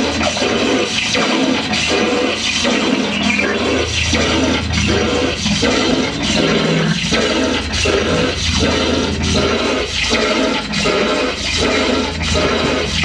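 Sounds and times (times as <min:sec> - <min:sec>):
steady low hum: 0:00.0 - 0:13.0
pulsing rushing noise: 0:01.4 - 0:13.0.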